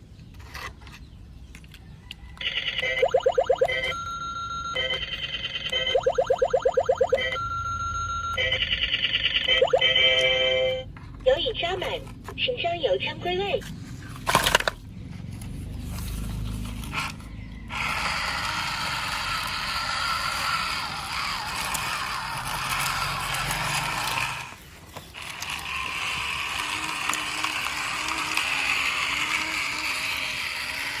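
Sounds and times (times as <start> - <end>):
toy truck motor whirring: 2.4 - 10.8, 13.6 - 31.0.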